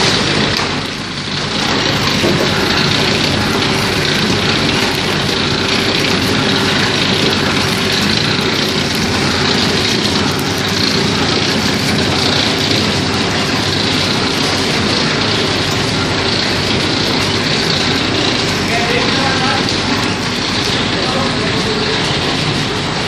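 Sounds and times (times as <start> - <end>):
packing machine running: 0.0 - 23.0.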